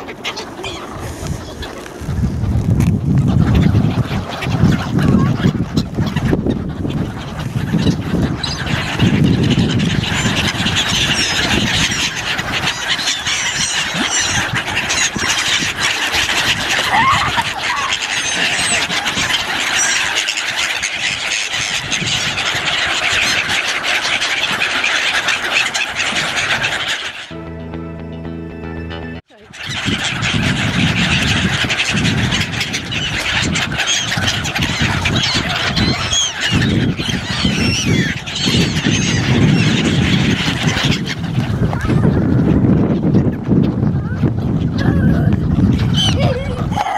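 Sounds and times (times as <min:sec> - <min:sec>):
flock of birds calling: 0:00.0 - 0:27.5, 0:28.9 - 0:46.9.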